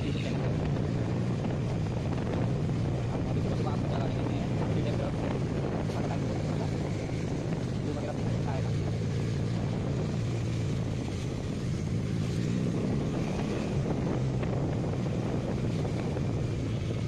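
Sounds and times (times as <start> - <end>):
motorcycle engine hum: 0.0 - 17.0
road noise: 0.0 - 17.0
wind noise: 0.0 - 17.0.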